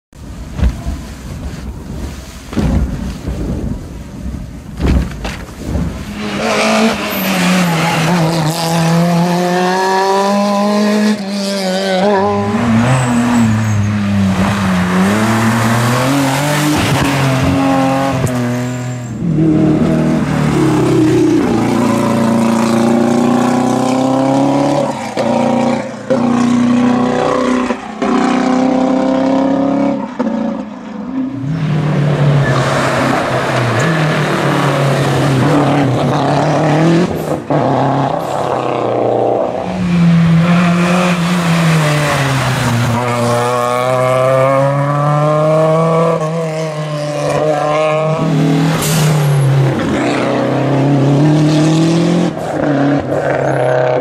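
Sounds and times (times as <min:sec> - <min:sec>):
rally car engines revving: 0:04.7 - 0:54.0.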